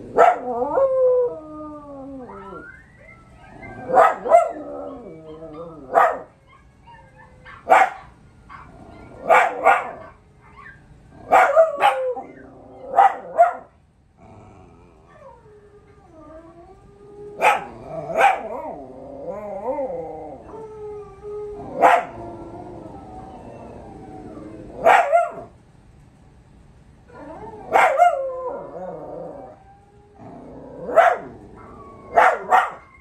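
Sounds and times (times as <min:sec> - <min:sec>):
dog howling: 0:00.0 - 0:13.7, 0:14.4 - 0:25.5, 0:27.1 - 0:33.0
barks and howls on television: 0:00.0 - 0:15.2, 0:17.3 - 0:20.7, 0:21.5 - 0:25.6, 0:27.2 - 0:33.0.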